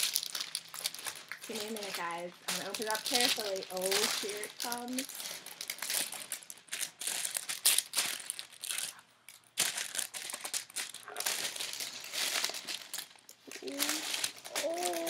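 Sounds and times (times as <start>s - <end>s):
wrapping crinkling: 0.0s - 15.0s.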